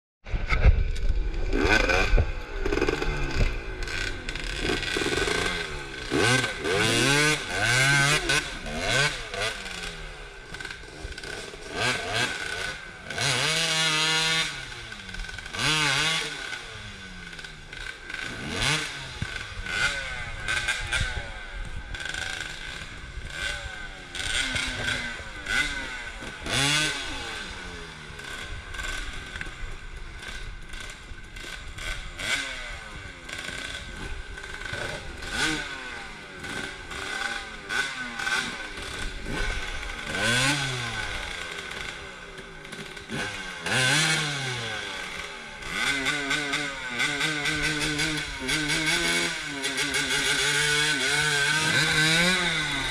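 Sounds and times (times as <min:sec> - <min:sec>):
dirt bike engine revving hard: 0:00.3 - 0:52.9.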